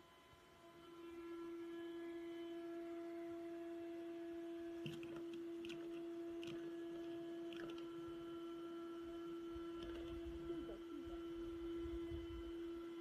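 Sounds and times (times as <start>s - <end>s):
handheld vacuum cleaner whine: 0.0s - 13.0s.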